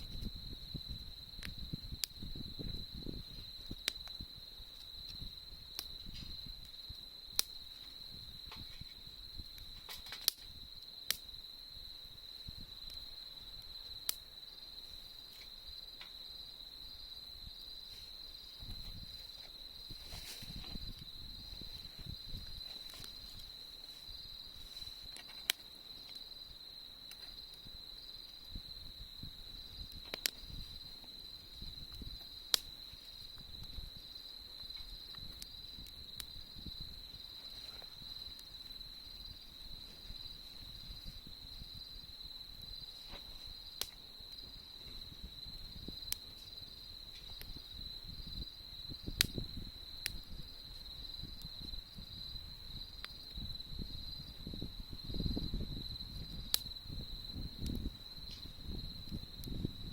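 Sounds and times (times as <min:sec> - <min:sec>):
campfire crackling pops: 0:00.0 - 0:59.9
insects trilling: 0:00.0 - 0:59.9.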